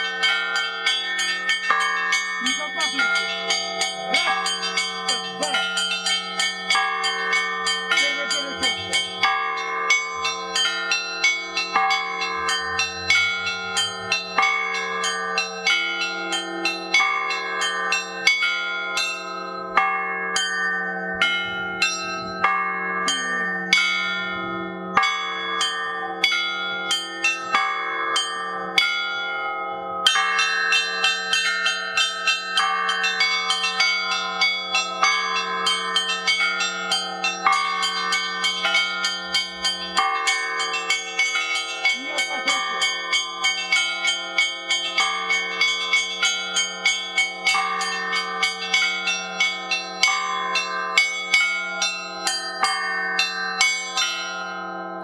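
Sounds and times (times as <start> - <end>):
small bells struck quickly: 0.0 - 54.8
deep church bell tone: 0.0 - 55.0.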